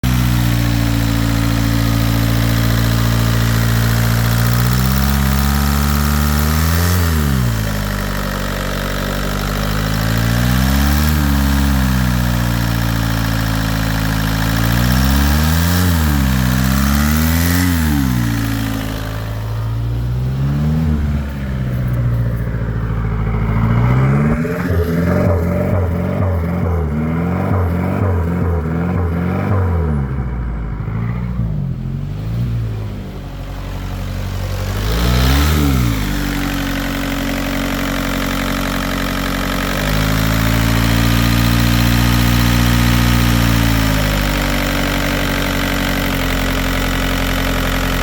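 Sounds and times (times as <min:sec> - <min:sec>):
diesel engine idling and revving: 0:00.0 - 0:48.0.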